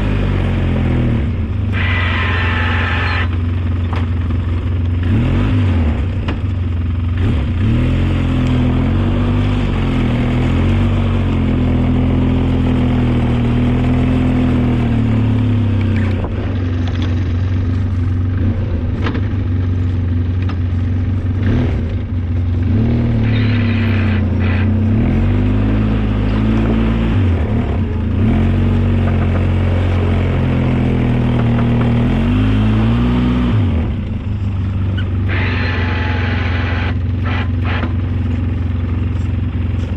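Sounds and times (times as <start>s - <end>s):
vehicle engine running under load: 0.0s - 39.9s.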